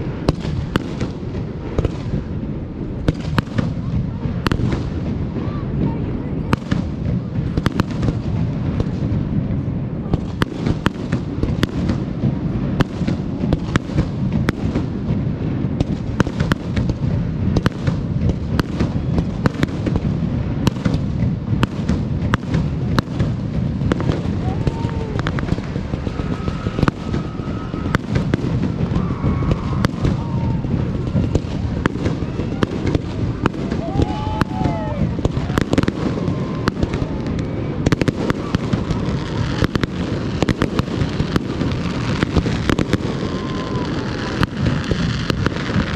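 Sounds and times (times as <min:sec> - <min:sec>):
fireworks booming and cracking: 0:00.0 - 0:45.9
low rumble of launches: 0:00.0 - 0:45.9.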